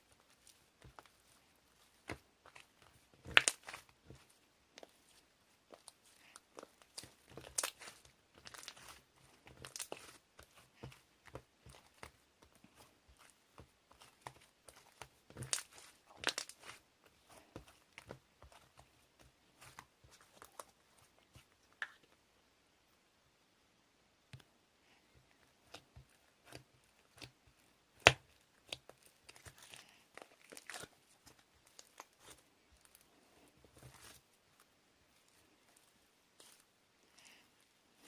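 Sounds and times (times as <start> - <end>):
rustling and crinkling: 0.0 - 22.1, 25.2 - 38.0.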